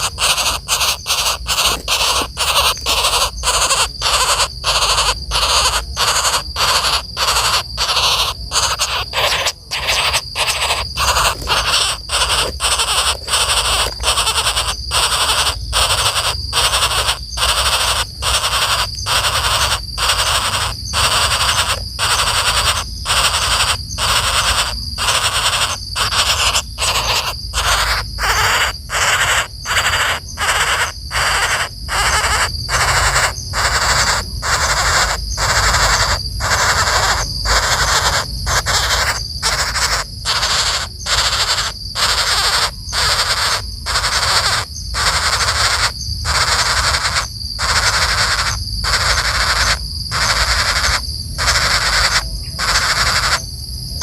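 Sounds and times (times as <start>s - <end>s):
woodpecker harsh buzzy calls: 0.0s - 54.0s.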